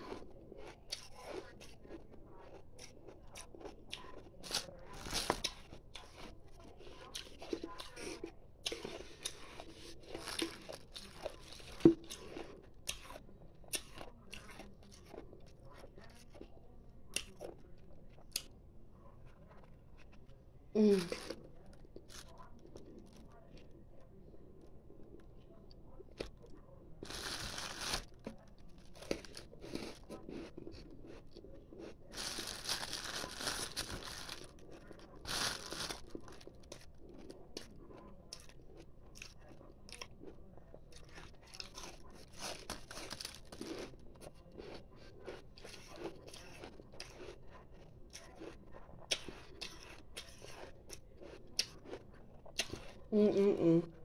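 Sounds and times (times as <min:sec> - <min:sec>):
crunching and chewing ice: 0:00.0 - 0:18.5, 0:21.1 - 0:25.3, 0:26.0 - 0:53.0.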